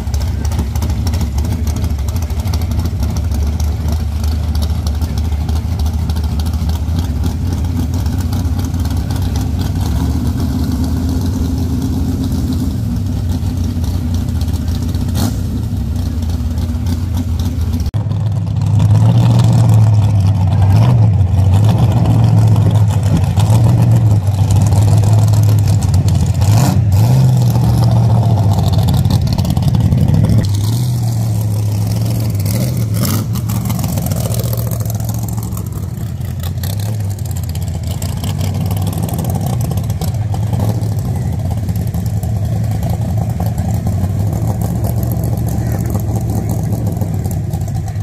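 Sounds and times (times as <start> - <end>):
pickup engine idling: 0.0 - 48.0
truck engine revving while driving: 0.0 - 48.0.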